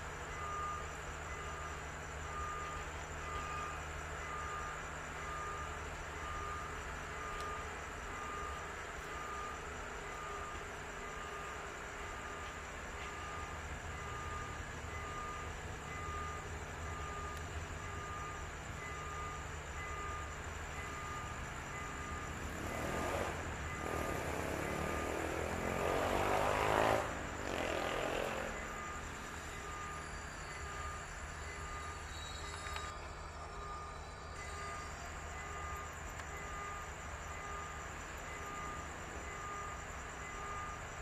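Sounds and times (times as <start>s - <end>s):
level crossing warning bell: 0.0s - 26.6s, 27.5s - 41.0s.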